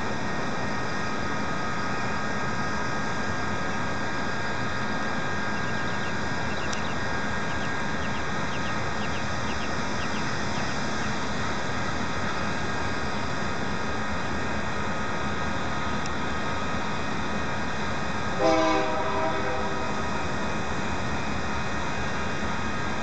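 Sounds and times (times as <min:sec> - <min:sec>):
distant freight train rumble: 0:00.0 - 0:23.0
outdoor background noise: 0:00.0 - 0:23.0.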